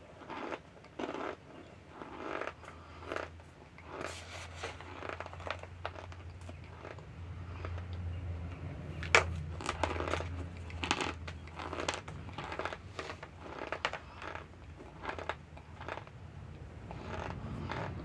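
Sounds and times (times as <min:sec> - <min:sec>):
crunchy chewing: 0:00.0 - 0:18.0
steady low hum: 0:00.0 - 0:18.0.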